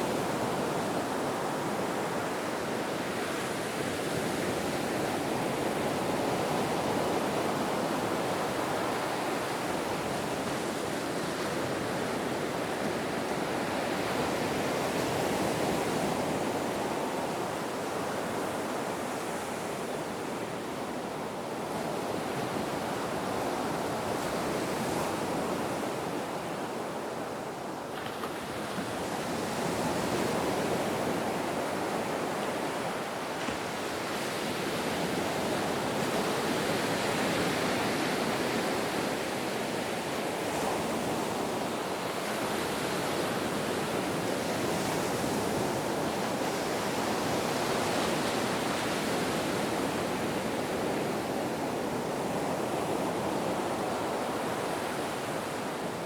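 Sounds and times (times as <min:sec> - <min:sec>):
ocean waves: 0:00.0 - 0:56.0.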